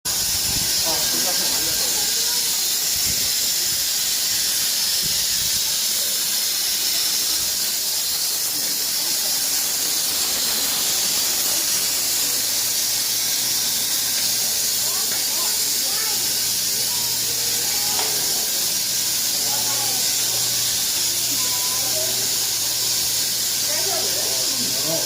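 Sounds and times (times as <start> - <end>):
steam locomotive venting steam: 0.1 - 25.0.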